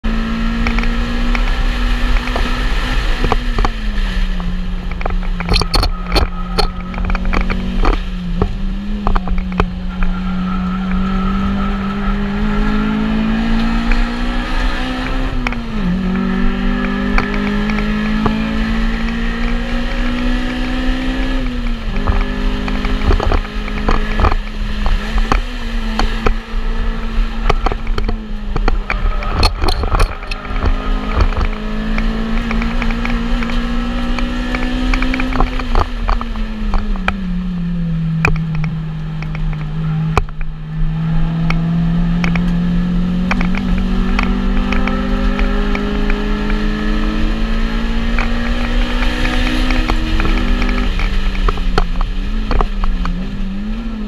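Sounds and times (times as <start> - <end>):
car engine driven hard: 0.0 - 54.0
road and wind noise: 0.0 - 54.0.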